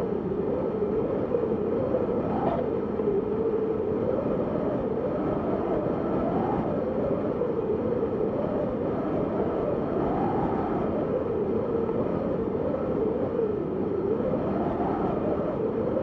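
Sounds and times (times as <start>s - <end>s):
hollow wind whistling: 0.0s - 16.0s.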